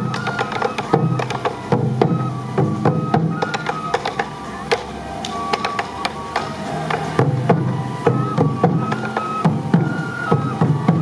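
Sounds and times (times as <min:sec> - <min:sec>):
bamboo flute melody: 0:00.0 - 0:11.0
taiko drum strikes: 0:00.0 - 0:11.0.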